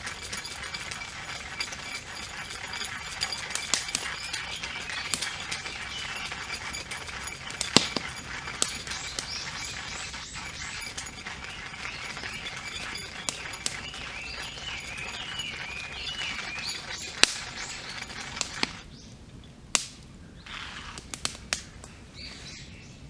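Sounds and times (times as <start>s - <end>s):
campfire crackling: 0.0s - 18.8s, 19.7s - 21.9s
fire popping: 0.0s - 18.8s, 19.7s - 21.9s
birds chirping: 0.0s - 19.2s.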